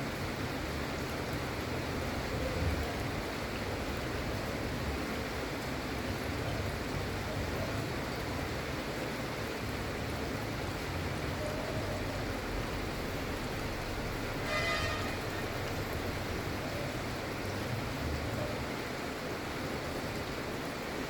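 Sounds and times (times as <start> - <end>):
gentle rain falling: 0.0 - 21.0.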